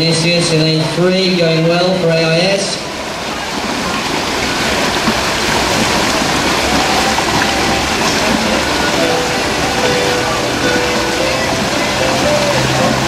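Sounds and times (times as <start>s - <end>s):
swimmers splashing: 0.0s - 13.0s.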